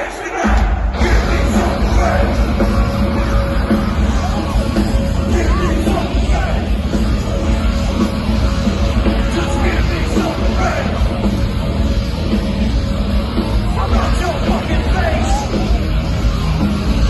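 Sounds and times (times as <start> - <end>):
crowd yelling: 0.0 - 17.0
live metal music: 0.0 - 17.0.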